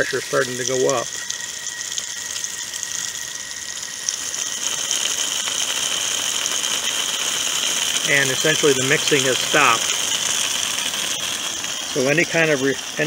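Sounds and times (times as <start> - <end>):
water hissing from hose: 0.0 - 13.0.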